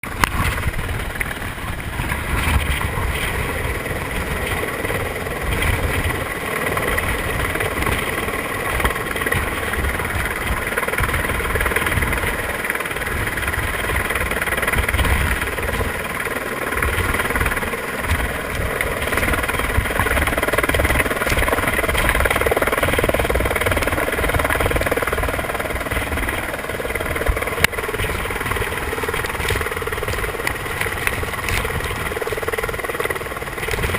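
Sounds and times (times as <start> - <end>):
helicopter turbine whine: 0.0 - 33.9
rotor throb: 0.0 - 33.9.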